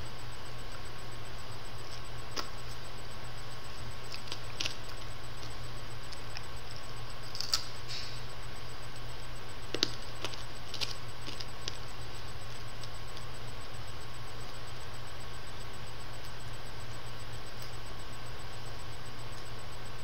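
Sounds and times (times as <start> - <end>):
low hum and hiss: 0.0 - 20.0.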